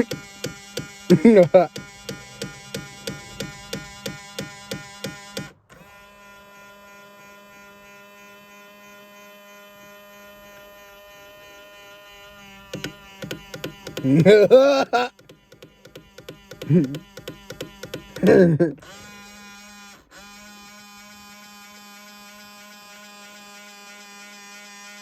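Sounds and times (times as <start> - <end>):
mirror motor clicking: 0.0 - 25.0
steady electric buzz: 0.0 - 25.0.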